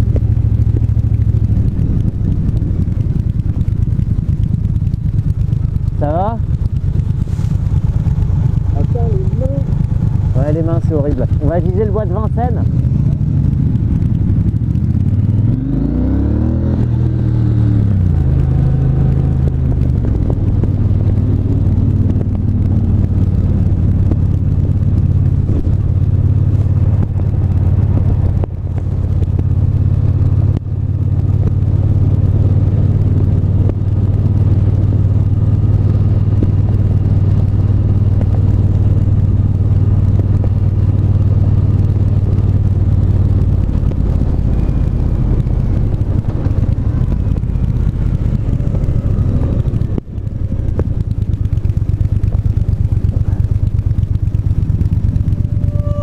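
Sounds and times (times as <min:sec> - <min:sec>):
motorcycle engine revving and cruising: 0:00.0 - 0:56.0.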